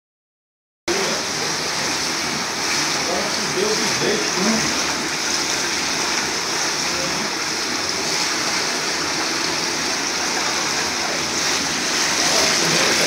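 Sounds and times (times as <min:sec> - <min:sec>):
floodwater rushing: 0:00.9 - 0:13.0.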